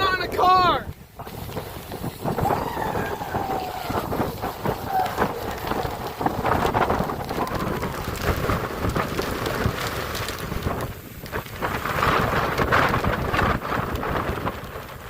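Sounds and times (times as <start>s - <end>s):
rain and wind on microphone: 0.0s - 15.0s.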